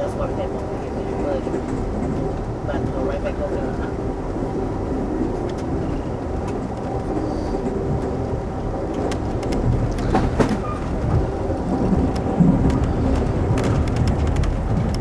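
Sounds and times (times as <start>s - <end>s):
train car rumbling on rails: 0.0s - 15.0s.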